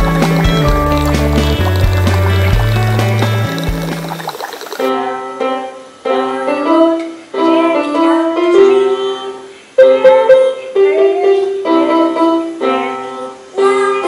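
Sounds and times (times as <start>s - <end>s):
background music: 0.0s - 14.0s
electronic keyboard piano melody: 0.0s - 14.0s.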